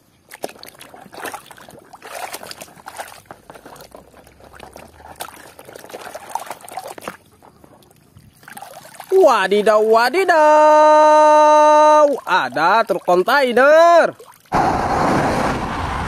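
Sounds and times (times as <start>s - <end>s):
water pouring and trickling: 0.0s - 14.6s.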